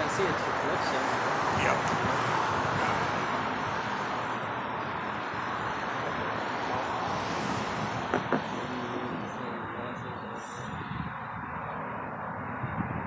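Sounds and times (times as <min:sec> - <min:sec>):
rushing background noise: 0:00.0 - 0:13.0.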